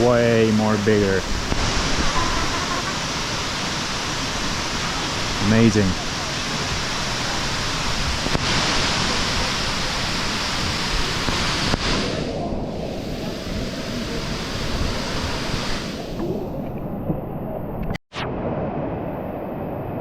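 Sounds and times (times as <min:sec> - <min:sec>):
large waterfall rushing: 0:00.0 - 0:16.2.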